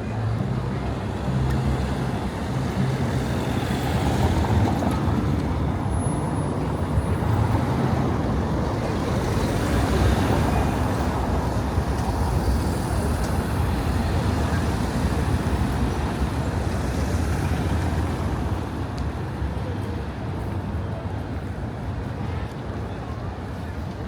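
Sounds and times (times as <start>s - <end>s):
city street traffic rumble: 0.0s - 24.0s.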